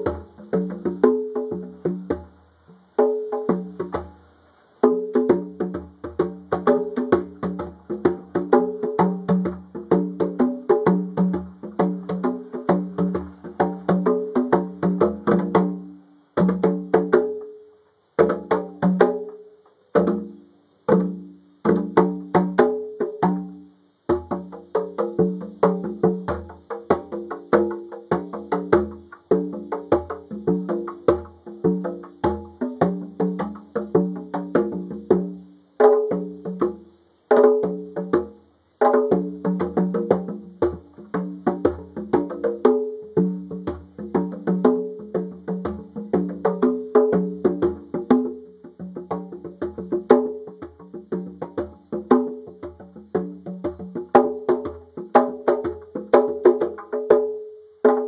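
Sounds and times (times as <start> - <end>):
conga drums played by hand: 0.0 - 58.0.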